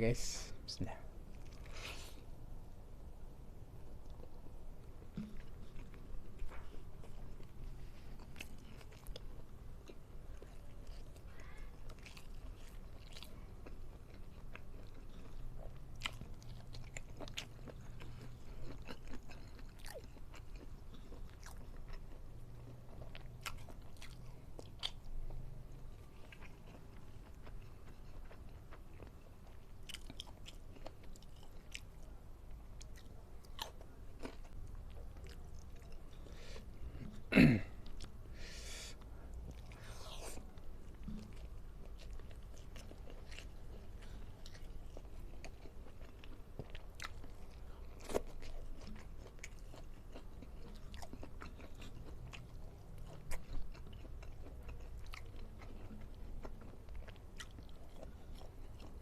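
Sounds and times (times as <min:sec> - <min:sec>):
person chewing food: 0:01.3 - 0:02.4, 0:03.7 - 0:59.0.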